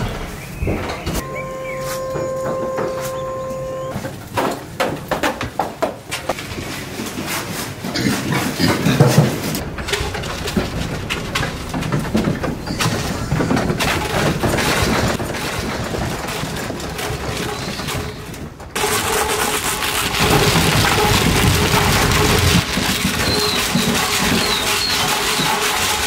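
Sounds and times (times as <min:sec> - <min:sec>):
trotters clattering on metal: 0:00.1 - 0:26.0.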